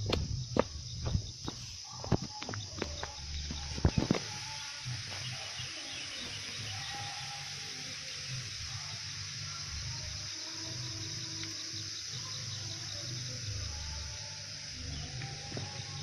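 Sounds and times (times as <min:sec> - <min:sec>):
high-pitched insect chirring: 0:00.0 - 0:16.0.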